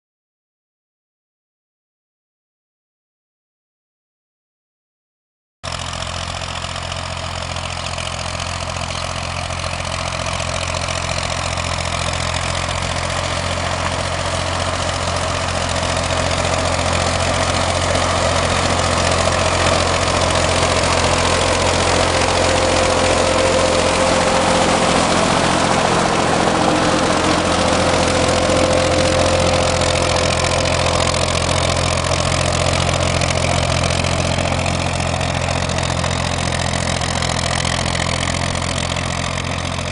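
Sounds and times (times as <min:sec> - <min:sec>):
tractor diesel engine running: 0:05.7 - 0:39.9.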